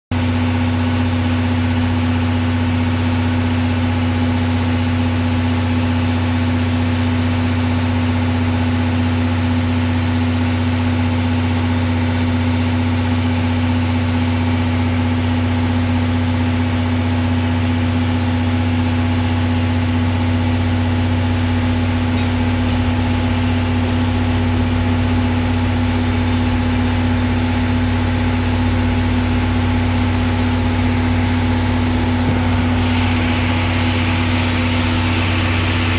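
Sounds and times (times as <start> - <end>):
locomotive engine droning: 0.2 - 35.9.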